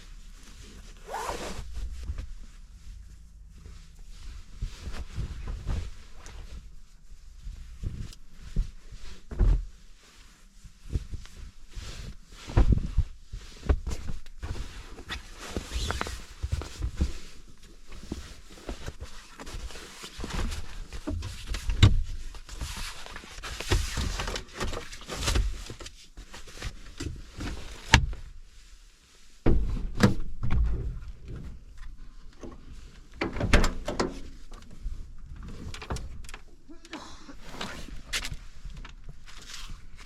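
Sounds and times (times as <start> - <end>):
rustling: 0.0 - 29.9, 33.8 - 40.0.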